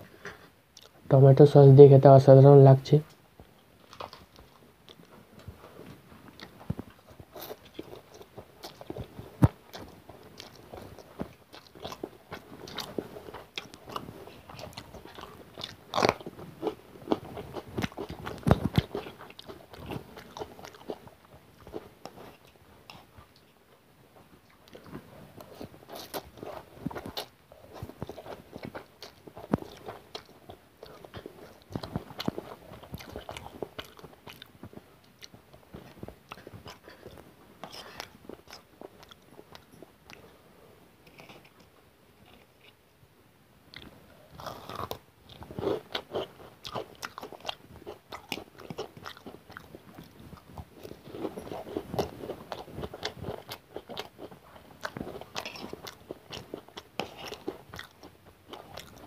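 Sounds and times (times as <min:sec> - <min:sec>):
crunchy chewing and biting: 0:06.4 - 0:23.2, 0:24.5 - 0:40.3, 0:43.7 - 0:59.0.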